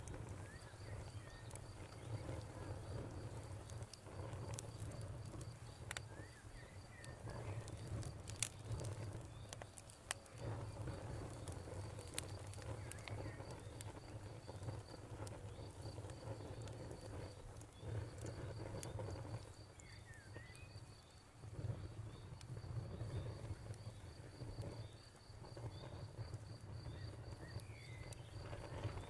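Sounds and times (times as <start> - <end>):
campfire crackling and popping: 0.0 - 29.0
cricket chirping: 0.1 - 29.0.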